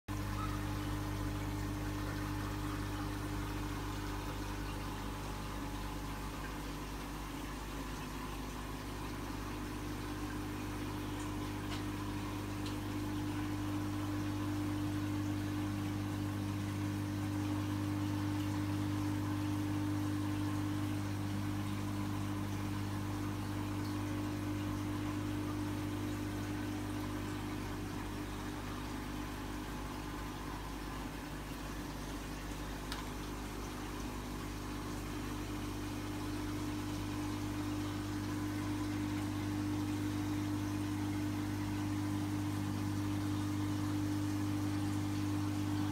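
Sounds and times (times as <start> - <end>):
aquarium pumps humming: 0.1 - 45.9.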